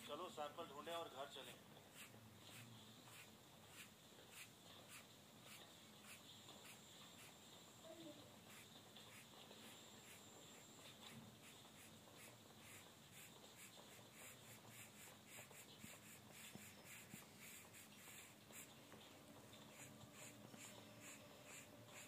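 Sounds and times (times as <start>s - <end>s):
charcoal pencil scratching on paper: 1.9s - 7.4s, 8.4s - 18.8s, 19.5s - 22.0s.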